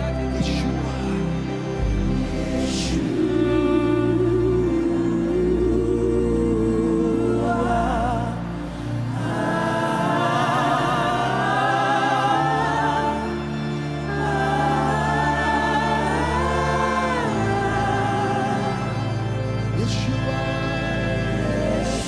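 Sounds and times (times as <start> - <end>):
choir singing wordless notes: 0.0 - 22.0.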